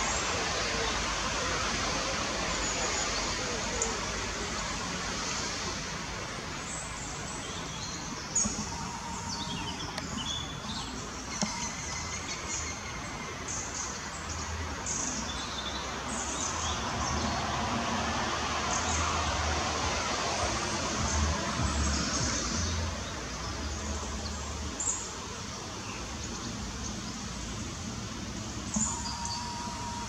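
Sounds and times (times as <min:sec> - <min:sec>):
songbird chirps: 0:02.1 - 0:30.0.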